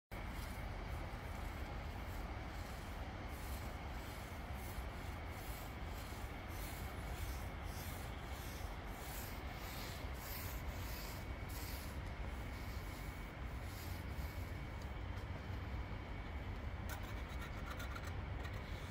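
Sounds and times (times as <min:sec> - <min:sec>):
steady low hum: 0:00.1 - 0:18.9
paint rollers swishing on concrete: 0:00.2 - 0:15.5.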